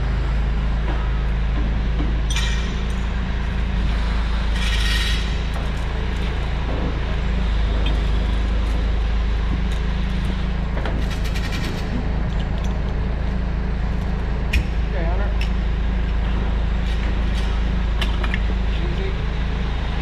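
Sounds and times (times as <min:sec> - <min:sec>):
forklift engine idling: 0:00.0 - 0:20.0.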